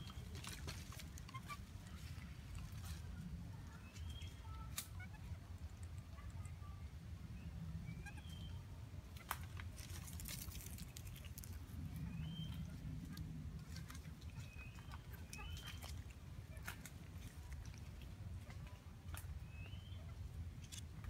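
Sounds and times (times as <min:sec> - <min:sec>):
low rumble: 0:00.0 - 0:19.4.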